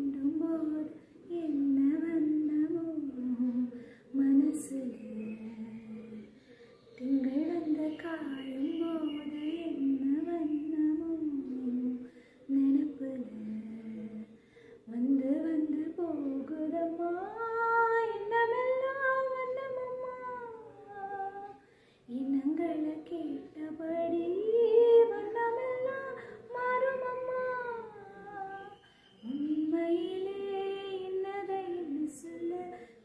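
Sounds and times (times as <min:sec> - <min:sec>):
woman singing unaccompanied: 0:00.0 - 0:33.0.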